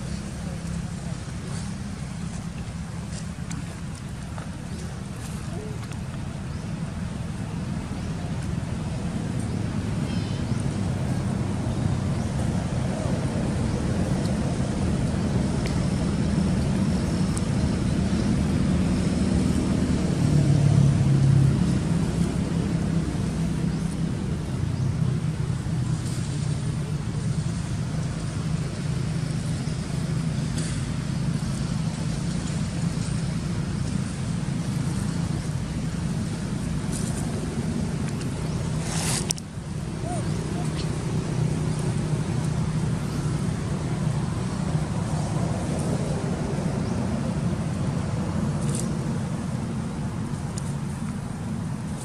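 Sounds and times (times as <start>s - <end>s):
low motor rumble: 0.0s - 52.0s.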